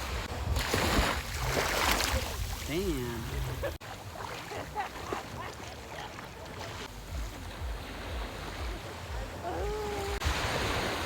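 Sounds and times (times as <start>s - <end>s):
ocean water: 0.0s - 11.0s.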